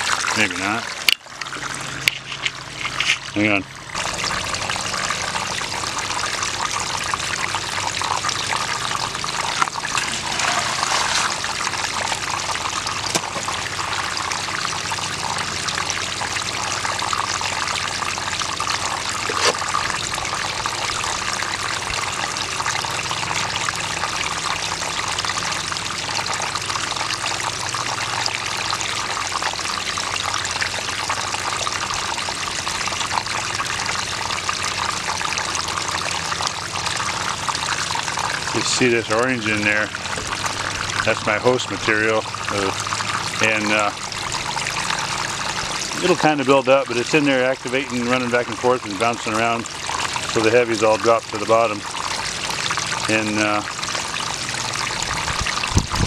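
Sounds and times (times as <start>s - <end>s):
water running down sluice box: 0.0s - 56.0s.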